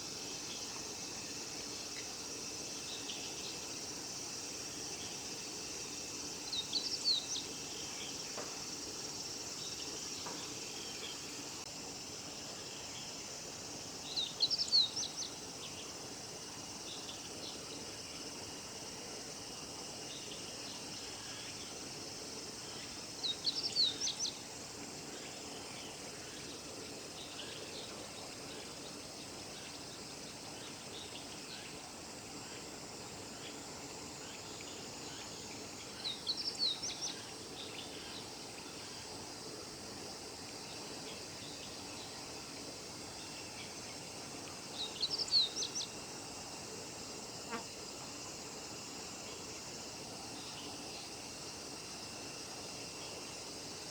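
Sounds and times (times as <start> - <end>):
insects buzzing: 0.0 - 53.9.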